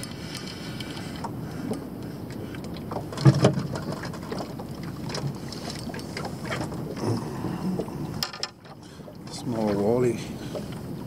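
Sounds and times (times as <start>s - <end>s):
knocks and clicks in a boat: 0.0s - 11.0s.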